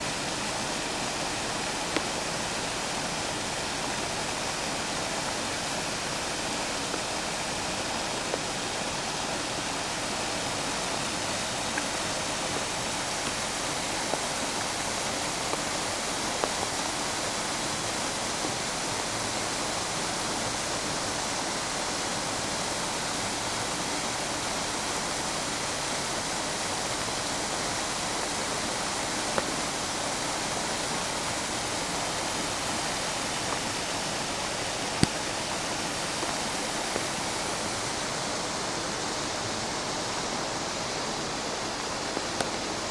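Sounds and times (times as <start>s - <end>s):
waterfall of rain runoff: 0.0s - 42.9s.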